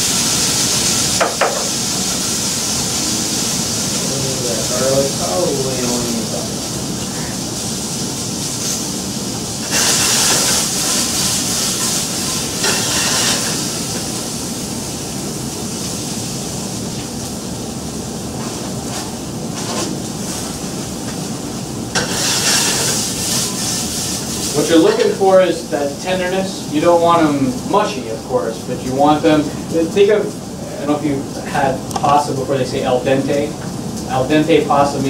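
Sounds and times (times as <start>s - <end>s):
vegetables sizzling in a skillet: 0.0s - 28.2s.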